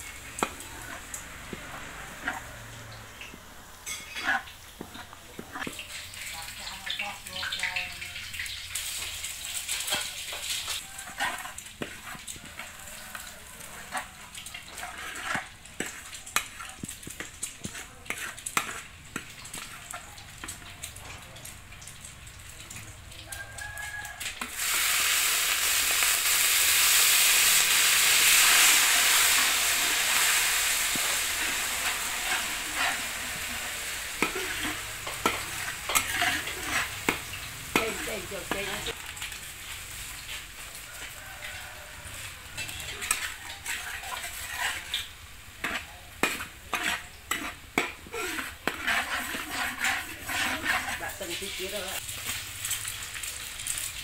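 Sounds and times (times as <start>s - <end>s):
metal spatula scraping wok: 0.0s - 21.0s, 24.4s - 53.0s
garlic sizzling in hot oil: 0.0s - 54.0s.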